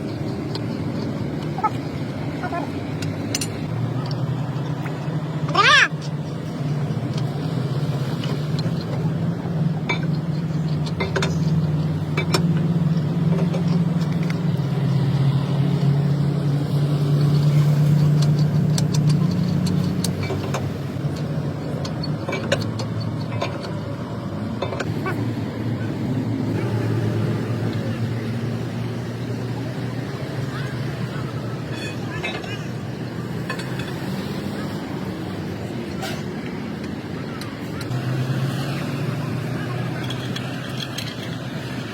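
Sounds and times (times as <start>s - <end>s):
low engine hum: 0.0s - 41.9s.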